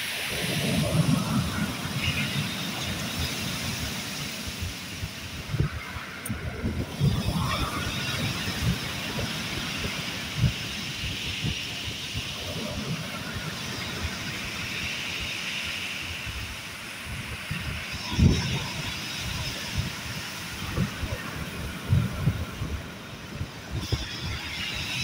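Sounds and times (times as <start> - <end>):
waves washing onto pebble beach: 0.0 - 25.0.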